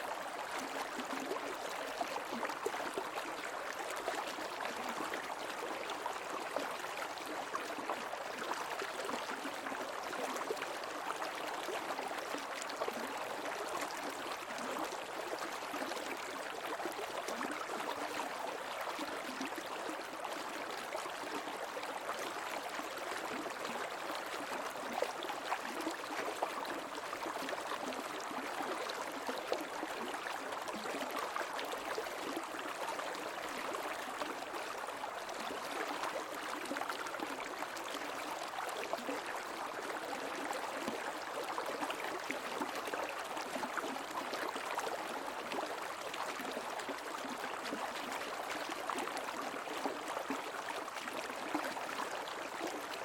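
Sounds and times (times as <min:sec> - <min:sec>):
creek water gurgling over stones: 0:00.0 - 0:53.0.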